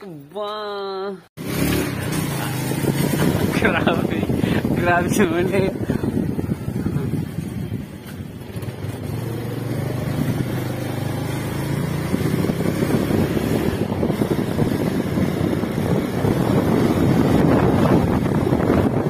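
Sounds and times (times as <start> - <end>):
motorcycle engine running: 1.4 - 19.0
wind rushing over microphone: 1.4 - 19.0.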